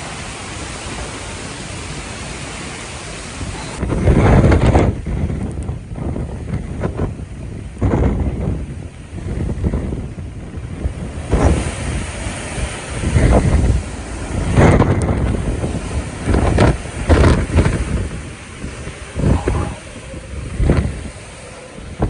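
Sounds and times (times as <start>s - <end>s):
wind gusting on microphone: 0.0s - 22.0s.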